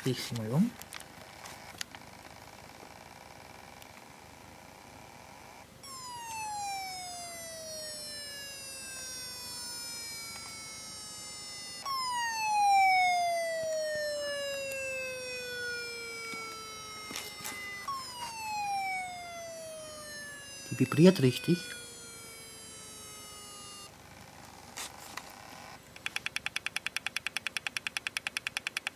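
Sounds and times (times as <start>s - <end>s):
hard drive whine gliding down: 0.0s - 28.9s.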